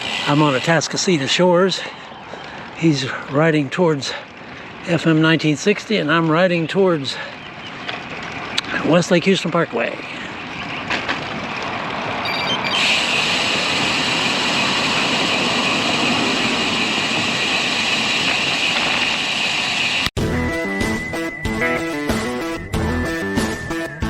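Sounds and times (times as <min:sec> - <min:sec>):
road bike riding noise: 0:00.0 - 0:20.1
tyres on road: 0:00.0 - 0:20.2
wind: 0:00.0 - 0:20.2.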